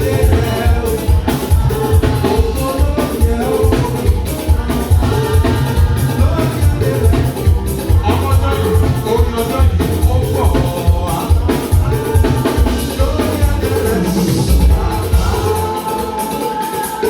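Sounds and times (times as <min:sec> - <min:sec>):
bass: 0:00.0 - 0:17.0
drum beat: 0:00.0 - 0:17.0
live band music: 0:00.0 - 0:17.0
person singing: 0:00.0 - 0:17.0.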